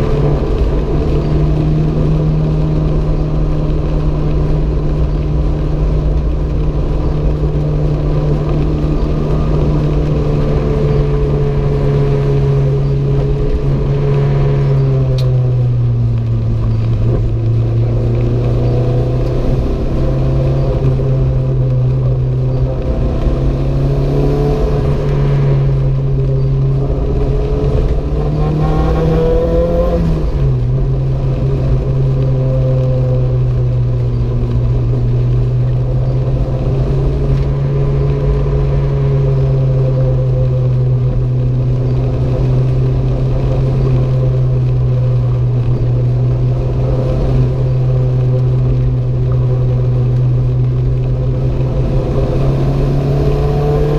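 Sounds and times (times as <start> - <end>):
turbocharged car engine revving: 0.0 - 34.0, 34.6 - 53.9.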